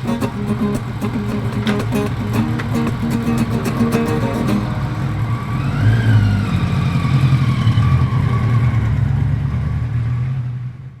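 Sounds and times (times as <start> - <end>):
motorcycle engine running and revving: 1.6 - 11.0.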